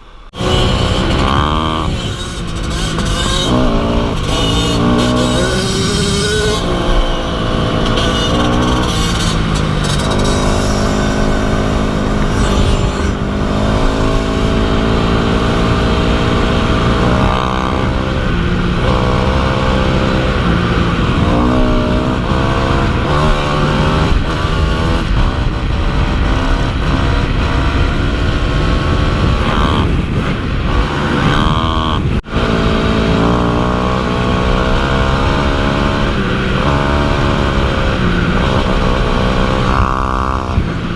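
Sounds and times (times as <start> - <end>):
dirt bike engine revving: 0.3 - 40.9.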